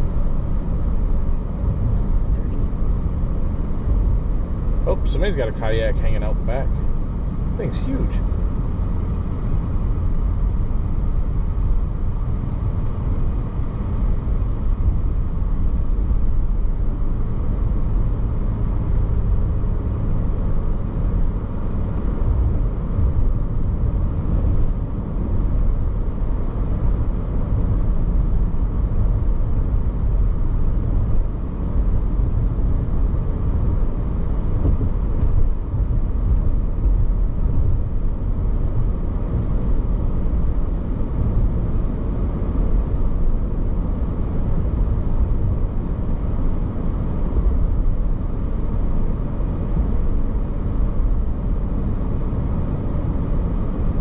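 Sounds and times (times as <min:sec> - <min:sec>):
car road noise and engine hum: 0:00.0 - 0:54.0.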